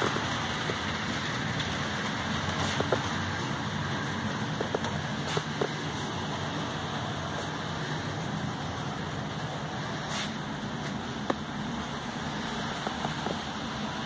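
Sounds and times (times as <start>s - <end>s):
model train rolling whir: 0.0s - 14.0s.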